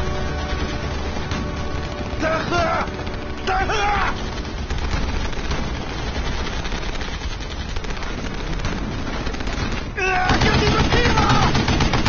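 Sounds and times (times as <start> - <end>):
machine-gun fire: 0.0 - 12.0.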